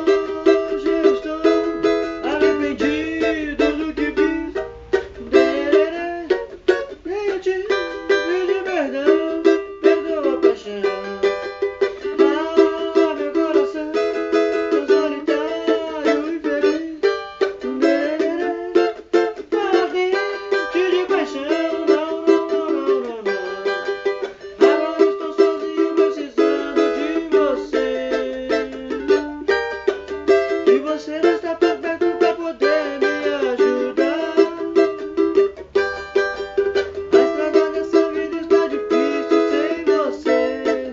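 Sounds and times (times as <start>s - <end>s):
cavaquinho plucked melody: 0.0s - 40.9s.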